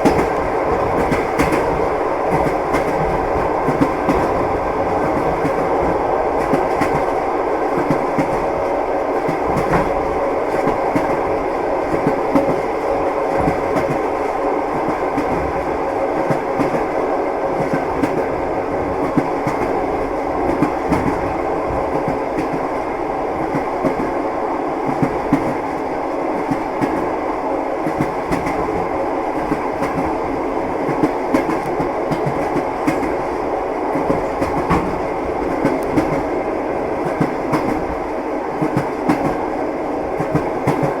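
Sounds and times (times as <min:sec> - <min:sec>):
train wheels clattering on rails: 0:00.0 - 0:24.2, 0:24.8 - 0:27.2, 0:27.8 - 0:41.0.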